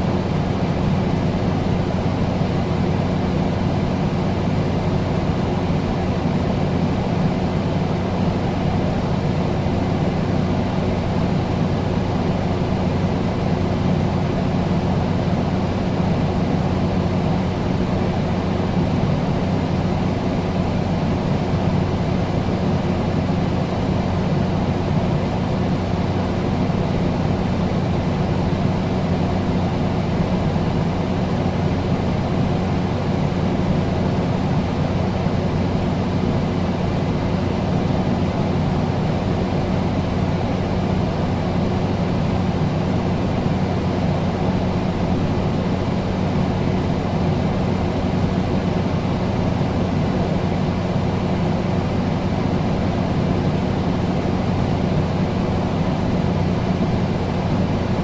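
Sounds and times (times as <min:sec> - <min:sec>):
air conditioner running: 0:00.0 - 0:58.0.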